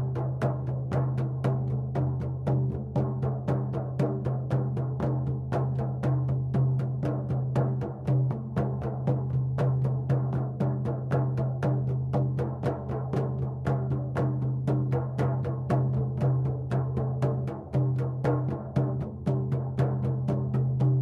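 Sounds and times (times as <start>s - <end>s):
drum beaten in steady rhythm: 0.0s - 21.0s.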